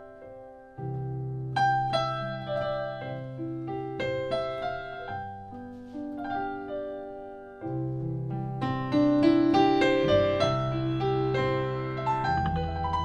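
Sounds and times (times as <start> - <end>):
single piano melody notes: 0.0 - 13.0
sustained piano chords: 0.0 - 13.0.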